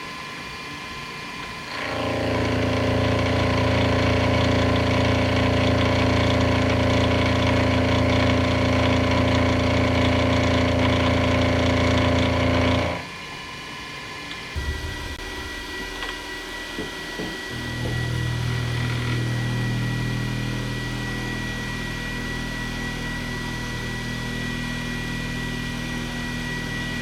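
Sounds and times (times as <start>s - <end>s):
milling machine motor humming: 1.7s - 13.0s, 14.6s - 27.0s.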